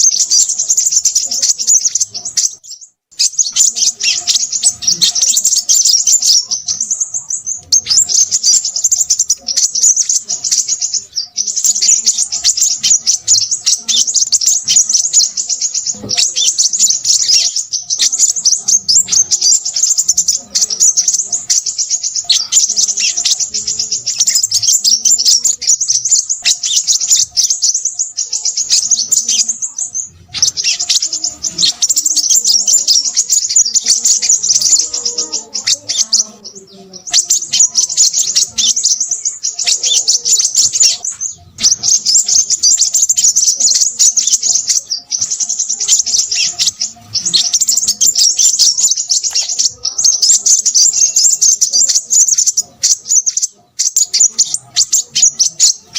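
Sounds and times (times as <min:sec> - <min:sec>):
bird singing high chirps: 0:00.0 - 0:55.9.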